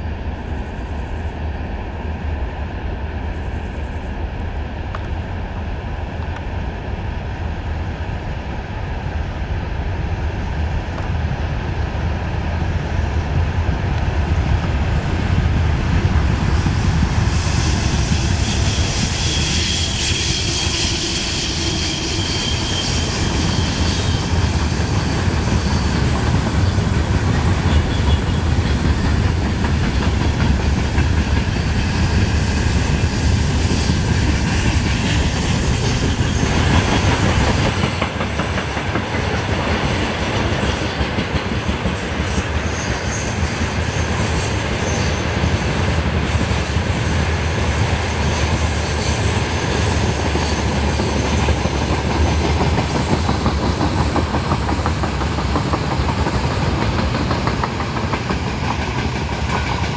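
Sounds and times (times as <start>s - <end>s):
faint high locomotive whine: 0.0s - 59.9s
train wheels rumbling on rails: 0.0s - 59.9s
clickety-clack over rail joints: 10.5s - 59.9s.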